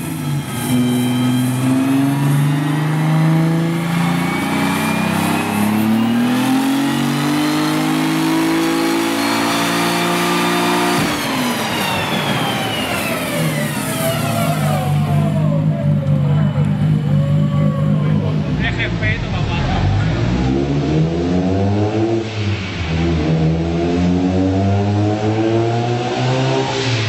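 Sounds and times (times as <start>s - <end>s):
car engine revving on dyno: 0.0s - 27.0s.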